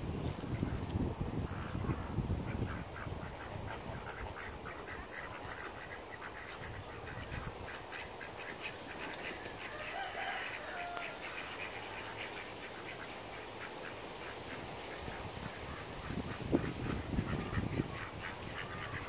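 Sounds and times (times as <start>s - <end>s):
ducks quacking: 1.5s - 19.0s.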